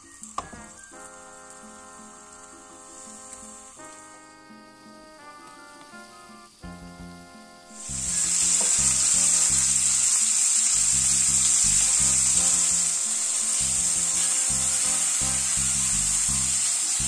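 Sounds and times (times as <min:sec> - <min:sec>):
chicken sizzling in frying oil: 0:00.0 - 0:17.0.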